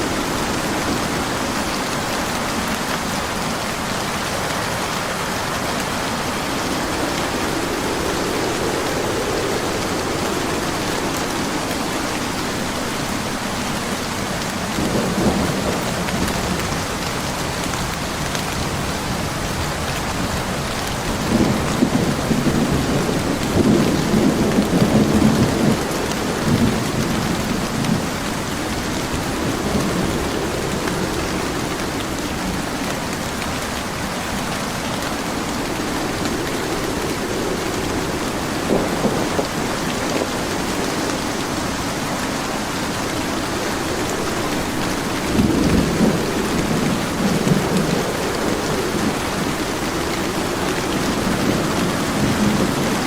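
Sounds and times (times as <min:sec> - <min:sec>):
heavy rain: 0:00.0 - 0:53.0
thunder rumbling: 0:00.0 - 0:53.0.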